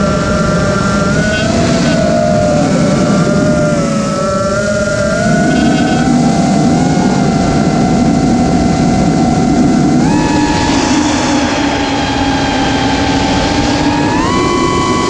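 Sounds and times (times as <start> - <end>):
drone motors whining: 0.0 - 15.0
wind rush: 0.0 - 15.0.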